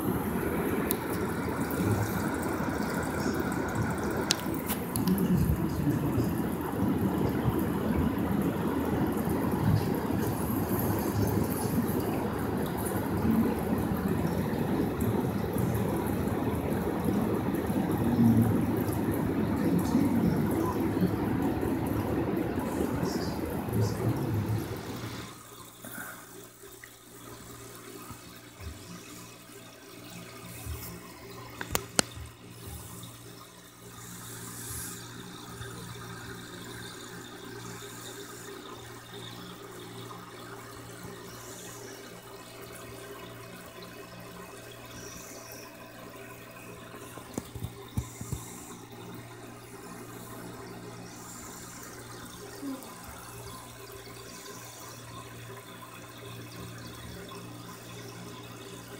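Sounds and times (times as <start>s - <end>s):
aquarium water trickling and bubbling: 0.0s - 58.9s
low electrical hum: 0.0s - 58.9s.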